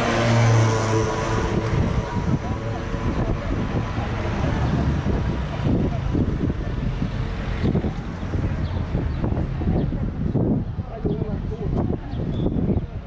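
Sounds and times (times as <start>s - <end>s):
people talking indistinctly: 1.7s - 13.0s.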